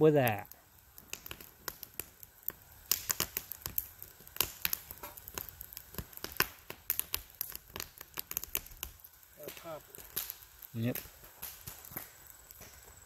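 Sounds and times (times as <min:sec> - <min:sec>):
small fire crackling and popping: 0:00.0 - 0:13.0.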